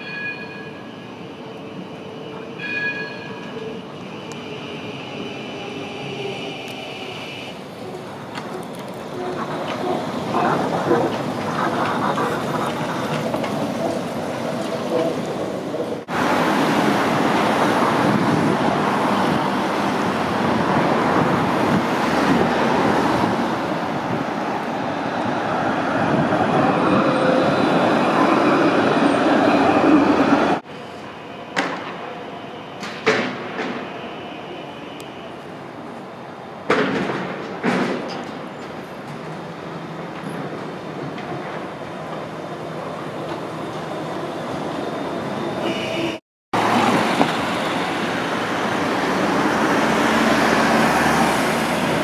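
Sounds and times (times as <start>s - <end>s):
street traffic rolling: 0.0s - 52.0s
tram running past: 0.0s - 52.0s.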